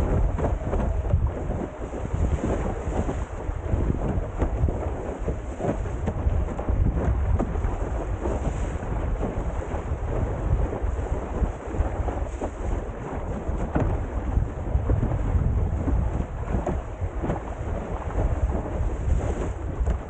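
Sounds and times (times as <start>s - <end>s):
water rushing past board: 0.0s - 20.0s
water slapping board: 0.0s - 20.0s
wind buffeting microphone: 0.0s - 20.0s.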